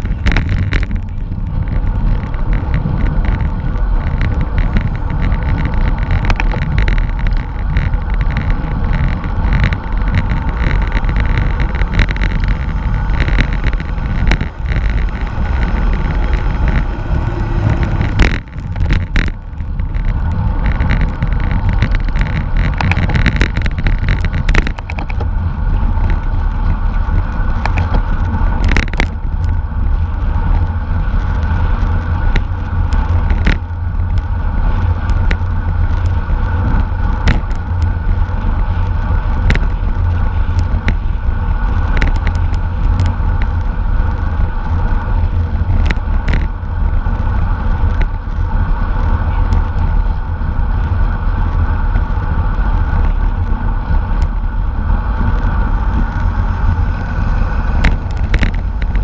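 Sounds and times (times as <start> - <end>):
bike clicks and knocks: 0.0 - 50.5, 51.4 - 59.0
hum of bicycle tyres: 0.0 - 59.0
wind rushing on microphone: 0.0 - 59.0.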